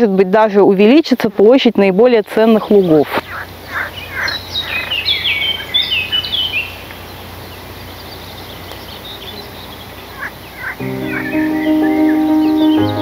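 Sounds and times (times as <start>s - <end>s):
low background noise: 0.0s - 13.0s
songbird singing: 1.7s - 13.0s.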